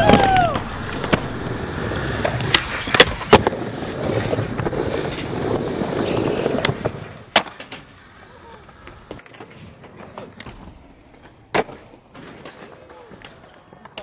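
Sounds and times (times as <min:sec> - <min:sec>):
skateboard clacks: 0:00.0 - 0:14.0
skateboard wheels rolling: 0:00.0 - 0:14.0.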